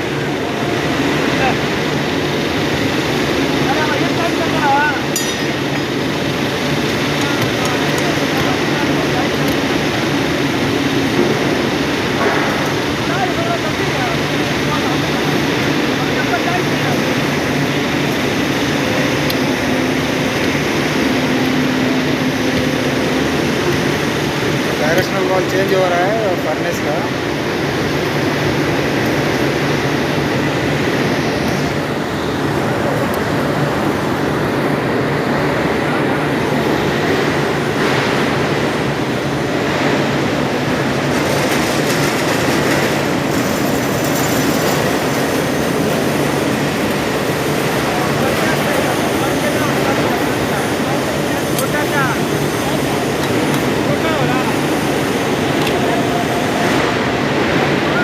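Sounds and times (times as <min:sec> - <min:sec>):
heavy industrial machinery droning: 0:00.0 - 0:58.0.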